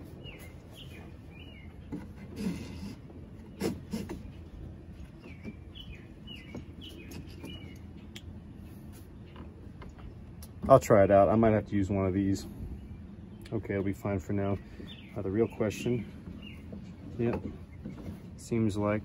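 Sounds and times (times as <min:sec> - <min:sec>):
low background hum: 0:00.0 - 0:19.0
small birds chirping: 0:00.0 - 0:19.0.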